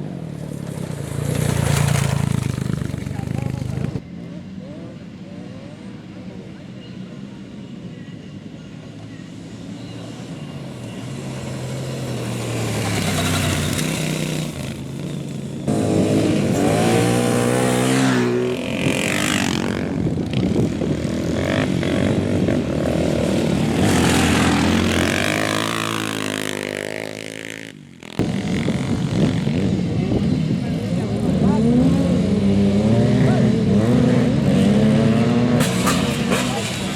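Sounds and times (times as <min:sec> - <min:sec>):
racing engines revving: 0:00.0 - 0:36.9.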